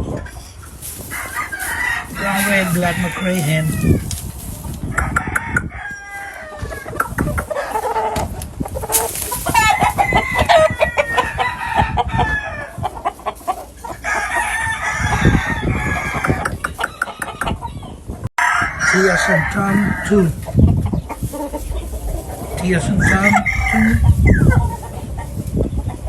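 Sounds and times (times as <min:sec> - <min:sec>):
birds clucking: 0:00.0 - 0:26.0
roosters crowing: 0:00.0 - 0:26.0.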